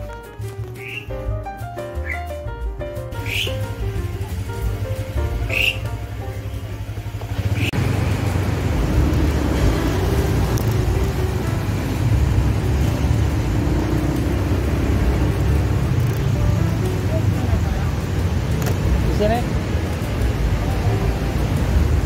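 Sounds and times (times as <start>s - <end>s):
background music: 0.0s - 7.7s, 8.3s - 22.0s
wind and road noise: 3.1s - 22.0s
motorcycle engine running: 3.4s - 22.0s.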